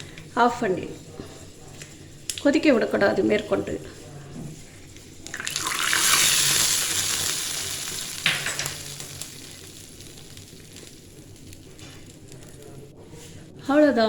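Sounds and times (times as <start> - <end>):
seeds sizzling in hot oil: 0.0 - 13.8.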